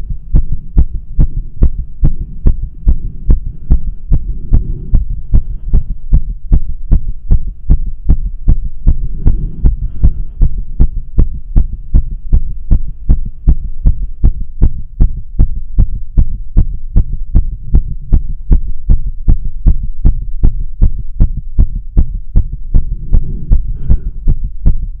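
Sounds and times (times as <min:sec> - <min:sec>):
fast heartbeat through stethoscope: 0:00.0 - 0:25.0.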